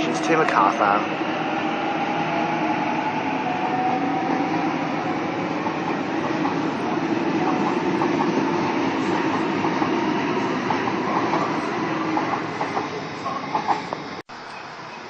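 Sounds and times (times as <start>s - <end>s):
electric train rolling: 0.0s - 15.0s
faint train whine: 0.0s - 15.0s.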